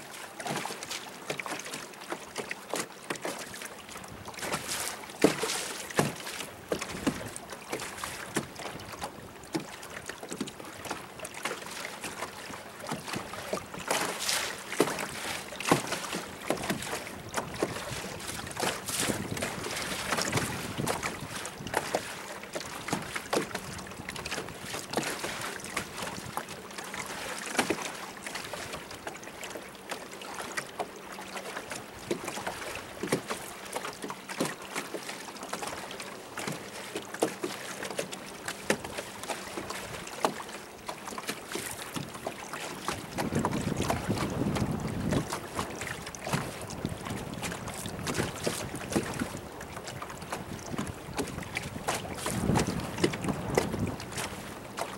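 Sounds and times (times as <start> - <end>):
water slapping against boat hull: 0.0 - 54.9.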